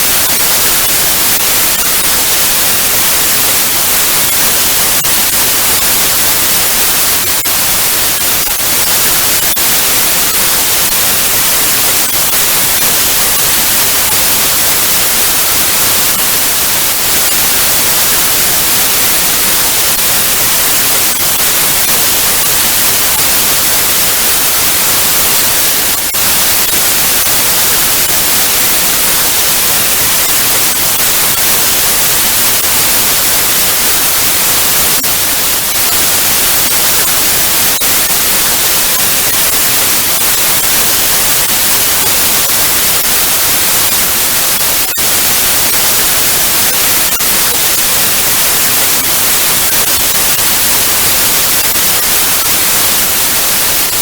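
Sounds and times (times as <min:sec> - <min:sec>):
tv static hiss: 0:00.0 - 0:54.0.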